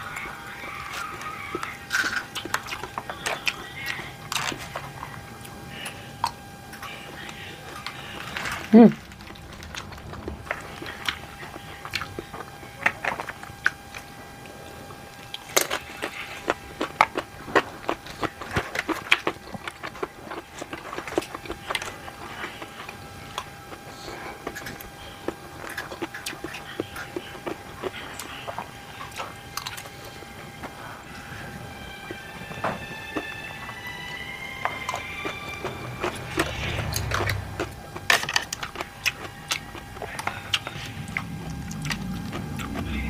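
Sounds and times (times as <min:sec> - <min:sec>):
chewing: 0:00.0 - 0:43.0.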